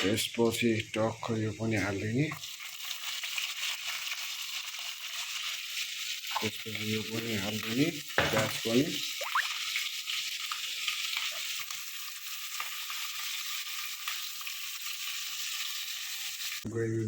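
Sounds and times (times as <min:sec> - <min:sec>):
onion and garlic sizzling in oil: 0:00.0 - 0:16.7.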